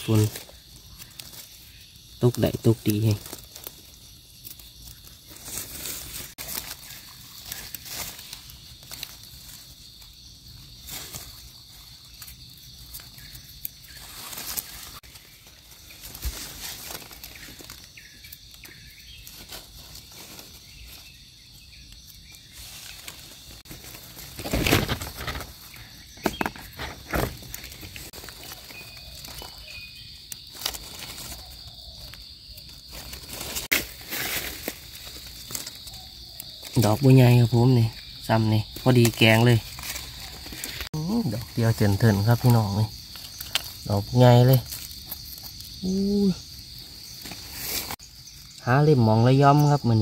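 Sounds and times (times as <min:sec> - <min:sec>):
high insect drone: 0:00.0 - 0:50.0
rustling of leaf litter: 0:00.0 - 0:50.0.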